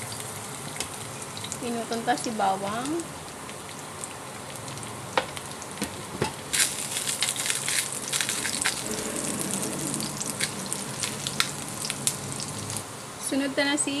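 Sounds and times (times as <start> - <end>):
garlic sizzling in hot oil: 0.0 - 12.8.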